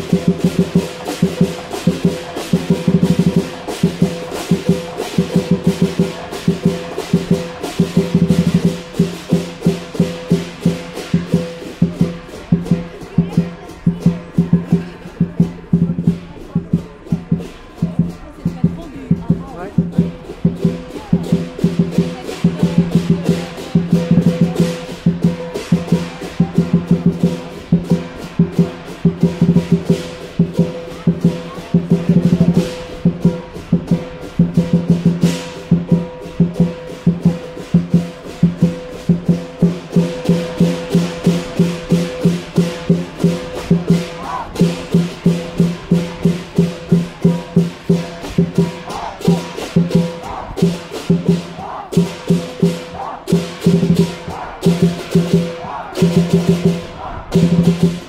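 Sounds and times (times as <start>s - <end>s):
cymbals clashing: 0.0s - 58.0s
large drum beating: 0.0s - 58.0s.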